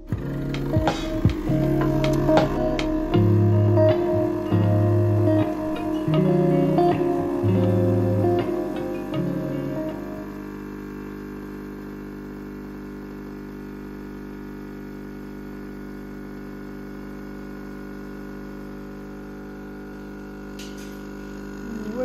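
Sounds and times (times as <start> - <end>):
coffee machine pump humming: 0.0 - 22.0.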